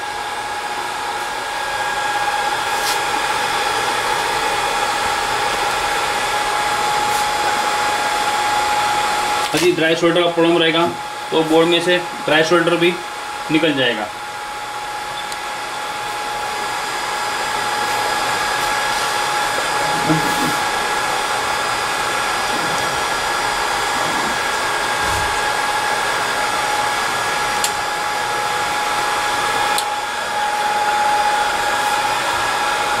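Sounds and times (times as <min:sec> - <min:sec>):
cooling blowers rushing air: 0:00.0 - 0:33.0.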